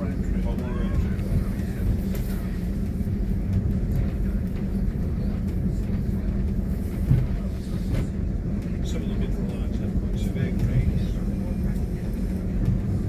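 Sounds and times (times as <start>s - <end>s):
train bump: 0.0s - 13.0s
train rumbling on rails: 0.0s - 13.0s.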